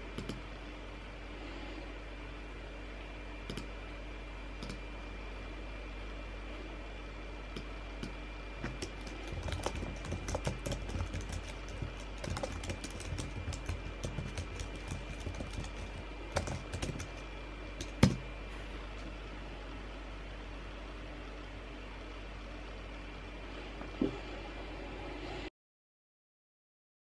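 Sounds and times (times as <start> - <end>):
steady low hum: 0.0 - 25.5.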